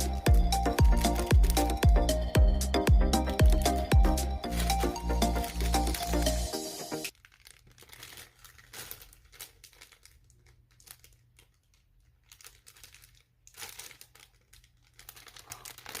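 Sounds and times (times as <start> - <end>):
wrapping crinkling and rustling: 0.0 - 2.2, 3.2 - 16.0.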